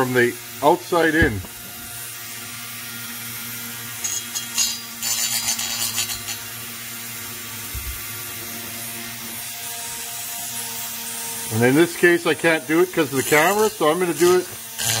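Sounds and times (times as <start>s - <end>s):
electric rotary tool humming: 0.0s - 15.0s.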